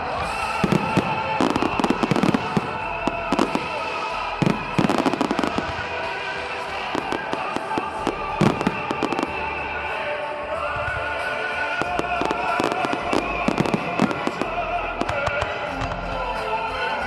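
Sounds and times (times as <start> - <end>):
fireworks bangs and crackles: 0.0 - 16.6
music with sustained tones: 0.0 - 17.0.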